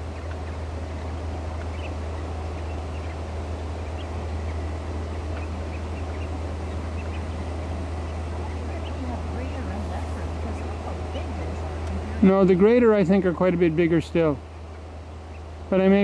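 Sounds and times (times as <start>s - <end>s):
faint bird calls: 0.0s - 16.0s
steady low rumble: 0.0s - 16.0s.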